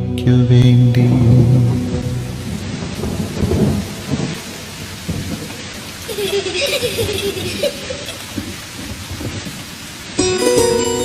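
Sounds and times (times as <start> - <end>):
thunder rumbling: 0.0 - 10.2
rain falling: 0.0 - 11.0.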